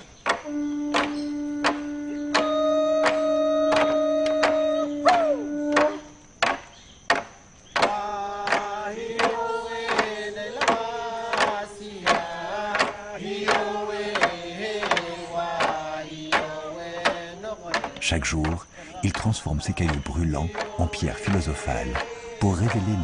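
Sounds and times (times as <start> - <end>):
voices chanting together: 0.0 - 23.0.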